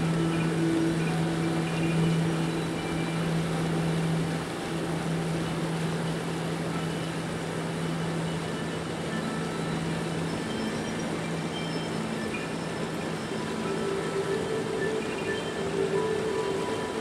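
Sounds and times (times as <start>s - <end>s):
motorboat engine humming: 0.0s - 17.0s
water rushing and splashing: 0.0s - 17.0s.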